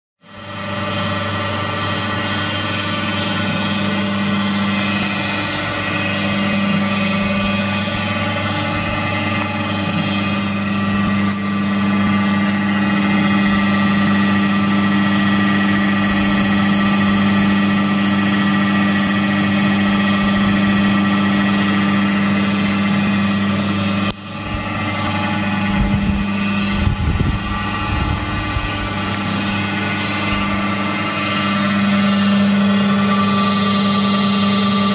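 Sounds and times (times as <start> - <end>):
machine motor humming: 0.2 - 34.9.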